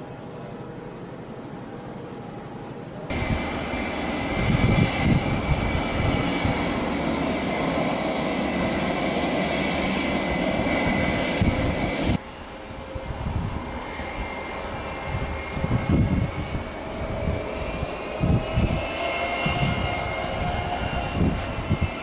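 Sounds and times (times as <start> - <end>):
jet engine whine and roar: 0.0 - 22.0
wind buffeting microphone: 3.1 - 22.0.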